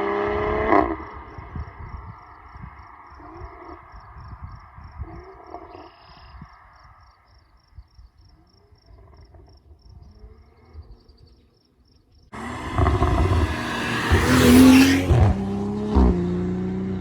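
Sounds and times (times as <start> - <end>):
crickets chirping: 1.0 - 15.2.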